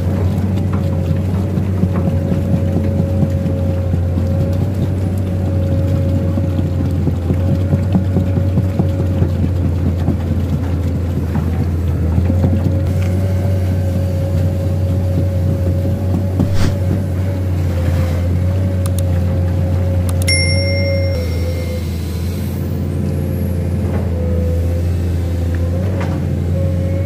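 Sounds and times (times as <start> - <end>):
diesel engine droning and whining: 0.0 - 27.0.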